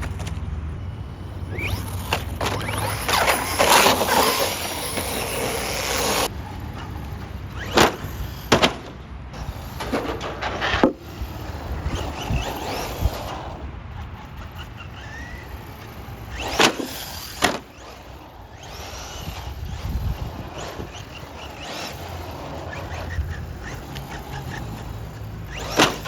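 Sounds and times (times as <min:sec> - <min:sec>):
tyres rushing over dirt: 0:00.0 - 0:26.0
electric motor whine: 0:00.8 - 0:08.5, 0:11.0 - 0:26.0.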